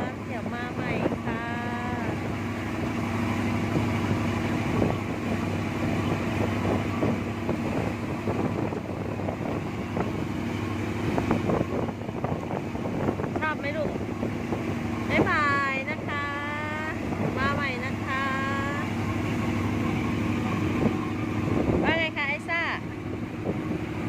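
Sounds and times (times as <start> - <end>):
boat engine running: 0.0 - 24.0
wind on microphone: 0.0 - 24.0.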